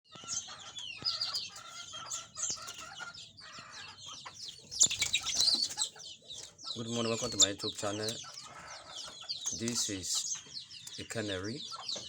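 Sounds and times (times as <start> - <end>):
canary singing: 0.1 - 12.0.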